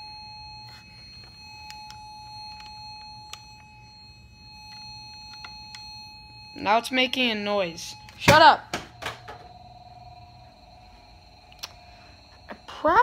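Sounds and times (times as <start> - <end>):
continuous electronic beep tone: 0.0 - 13.0.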